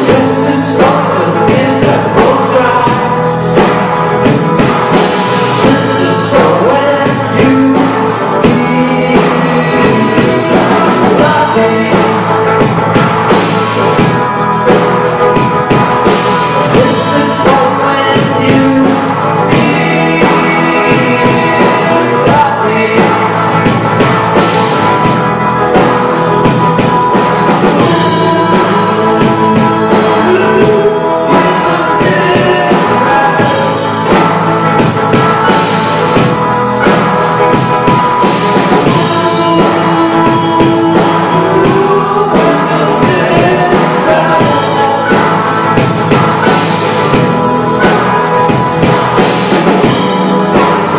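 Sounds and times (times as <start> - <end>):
drum kit: 0.0 - 50.9
electric guitars: 0.0 - 50.9
person singing: 0.0 - 50.9.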